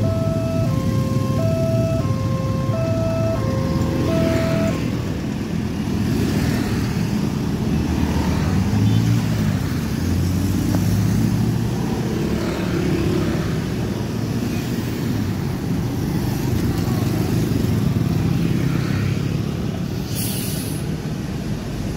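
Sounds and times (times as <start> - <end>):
motorcycles and cars driving past: 0.0 - 20.1.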